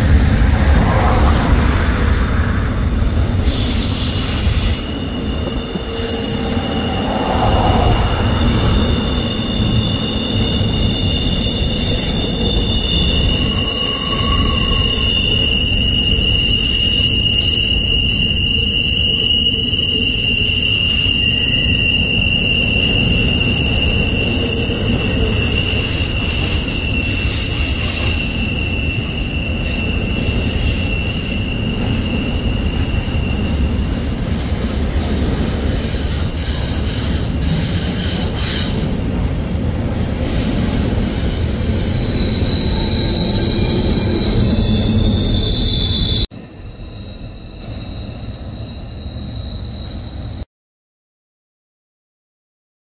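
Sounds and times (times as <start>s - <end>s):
low rumble of rail cars: 0.0s - 50.4s
train wheels squealing: 3.0s - 50.5s.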